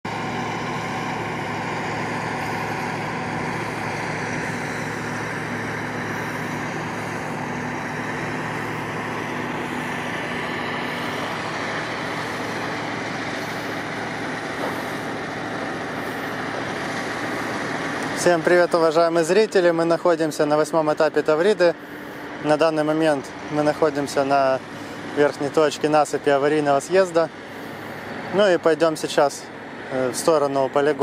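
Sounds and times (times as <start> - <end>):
heavy vehicle engine humming: 0.0 - 31.0
road noise: 0.0 - 31.0.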